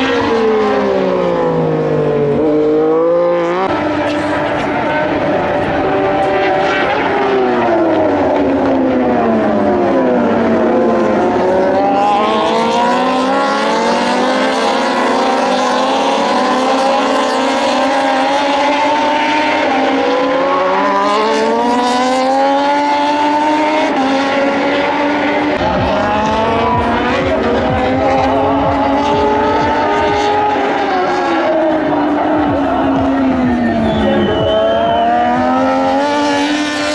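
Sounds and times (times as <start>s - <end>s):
race motorcycles accelerating: 0.0s - 36.9s.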